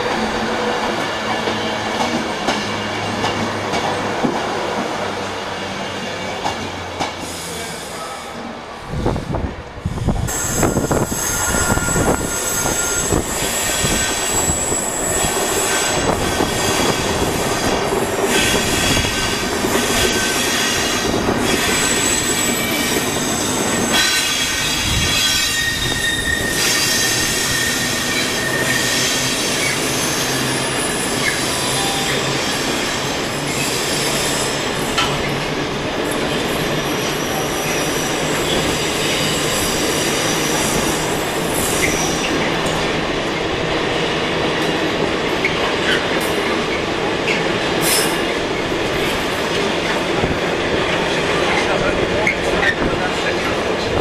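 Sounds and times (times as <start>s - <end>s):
wheels rumbling on rail: 8.4s - 54.0s.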